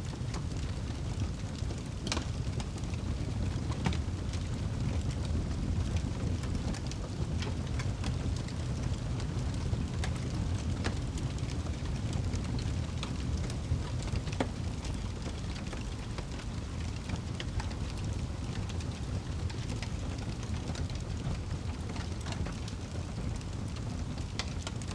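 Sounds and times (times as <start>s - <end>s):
fire crackling and popping: 0.0s - 24.9s
low rumble of flames: 0.0s - 24.9s.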